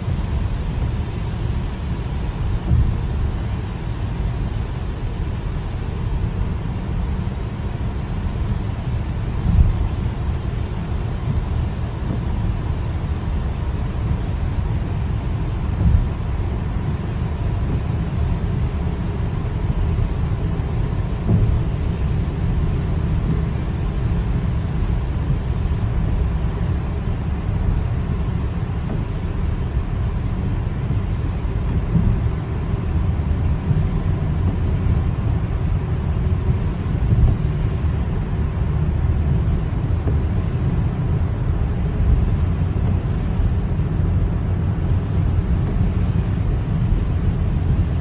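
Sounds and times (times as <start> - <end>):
faint steady whine: 0.0 - 48.0
low rumbling noise: 0.0 - 48.0.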